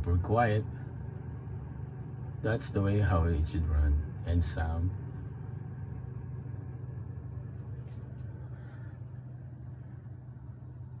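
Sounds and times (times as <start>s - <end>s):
refrigerator humming: 0.0s - 11.0s.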